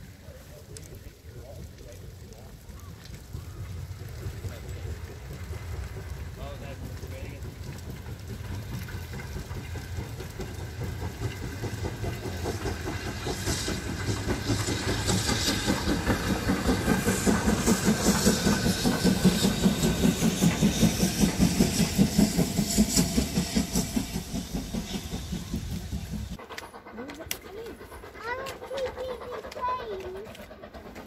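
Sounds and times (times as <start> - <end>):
steam hiss: 0.0 - 31.0
steam locomotive passing: 0.0 - 31.0.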